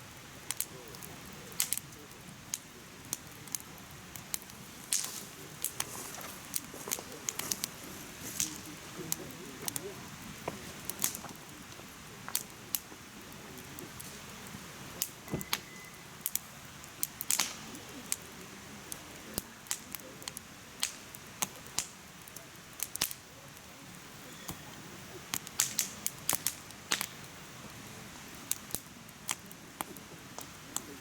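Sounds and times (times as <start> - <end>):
flames hissing: 0.0 - 31.0
firewood popping: 0.1 - 31.0.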